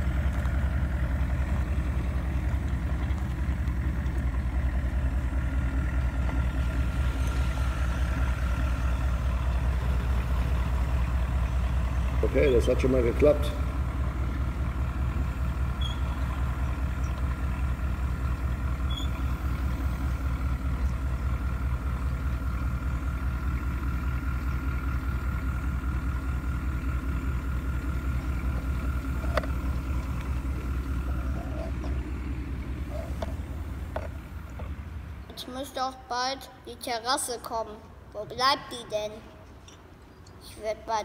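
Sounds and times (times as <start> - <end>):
model truck engine drone: 0.0 - 36.0.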